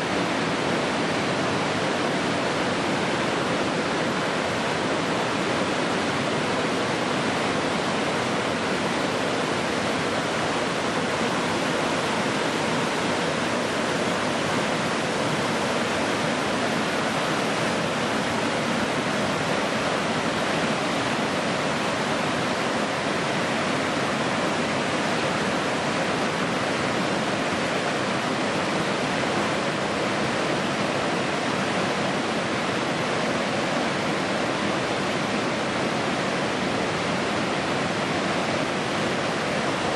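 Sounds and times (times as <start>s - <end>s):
water cascading: 0.0s - 39.9s.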